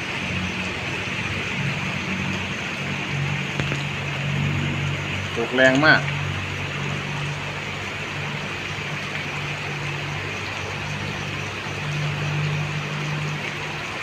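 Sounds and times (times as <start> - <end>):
heavy rain falling: 0.0 - 14.0
steady low hum: 0.0 - 14.0.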